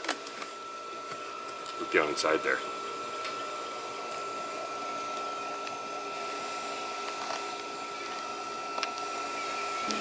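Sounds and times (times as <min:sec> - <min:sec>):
stove fan whine: 0:00.0 - 0:10.0.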